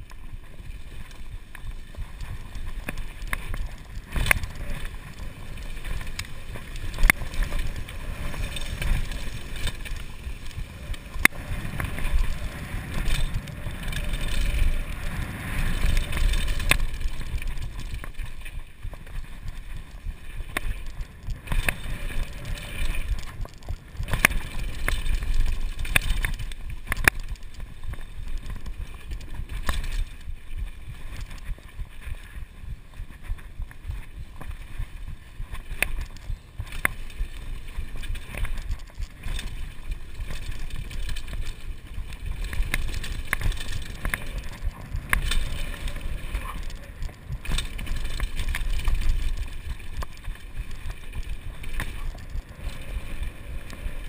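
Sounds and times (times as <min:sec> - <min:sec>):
bike tyres rolling over dirt: 0:00.0 - 0:54.0
bike clacking and rattling: 0:00.6 - 0:30.4, 0:35.7 - 0:54.0.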